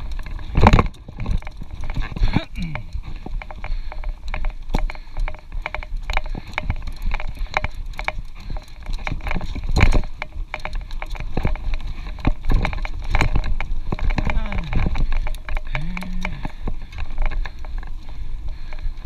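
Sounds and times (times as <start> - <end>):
mountain bike knocks and clatters: 0.0 - 19.0.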